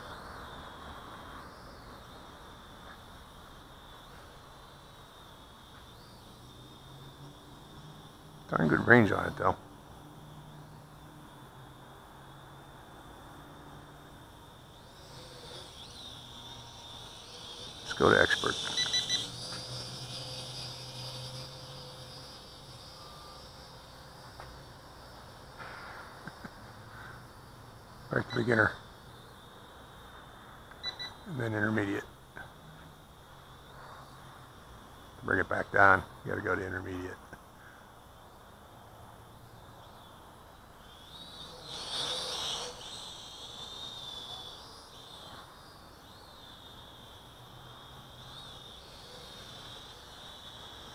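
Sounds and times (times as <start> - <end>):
crickets chirping: 0.0 - 50.9
toy quadcopter motors buzzing: 0.0 - 50.9.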